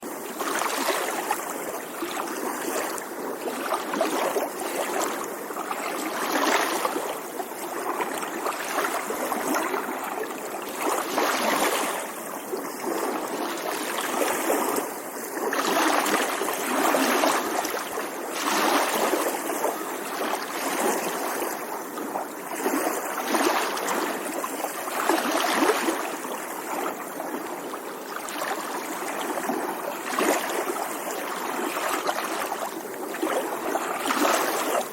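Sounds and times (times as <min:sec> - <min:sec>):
small waves lapping against shore: 0:00.0 - 0:34.9.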